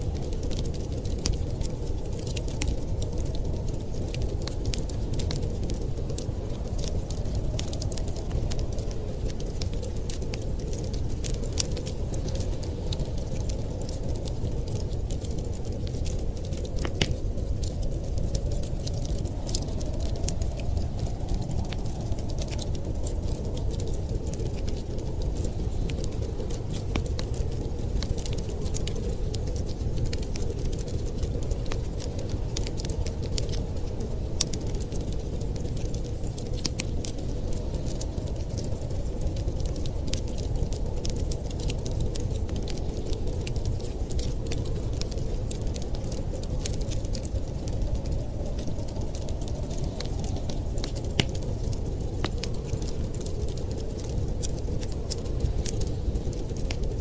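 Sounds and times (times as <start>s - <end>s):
wind rumbling: 0.0s - 57.0s
wood fire crackling and popping: 0.0s - 57.0s.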